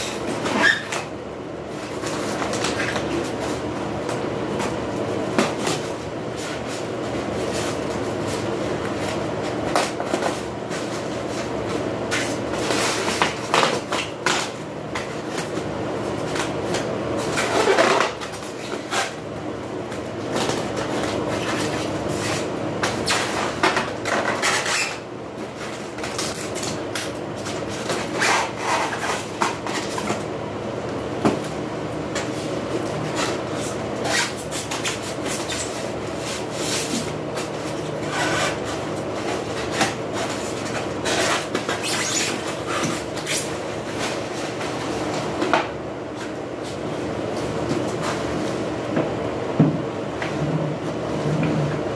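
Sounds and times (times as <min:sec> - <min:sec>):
steady mechanical hum: 0:00.0 - 0:51.9.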